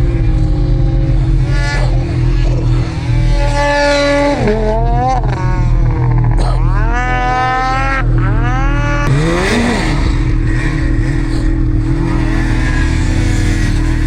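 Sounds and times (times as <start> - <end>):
snowmobile engines revving: 0.0 - 14.0.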